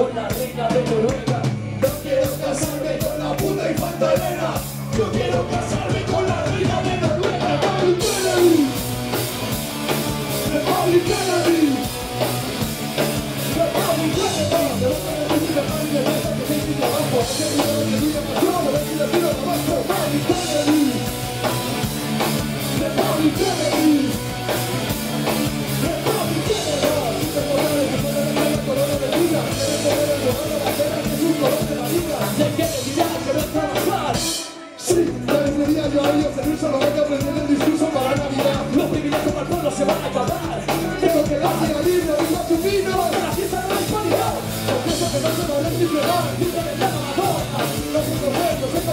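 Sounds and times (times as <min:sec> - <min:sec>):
person singing: 0:00.0 - 0:08.9, 0:10.2 - 0:11.9, 0:13.4 - 0:21.1, 0:22.6 - 0:24.3, 0:25.7 - 0:48.9
drums: 0:00.0 - 0:48.9
live rock band: 0:00.0 - 0:48.9.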